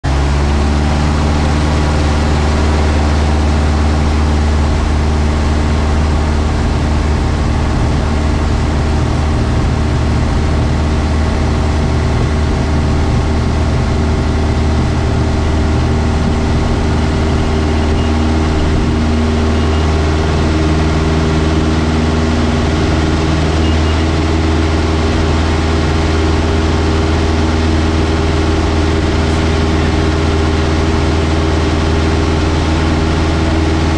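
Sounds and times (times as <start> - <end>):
aircraft engine and propeller: 0.1 - 33.9.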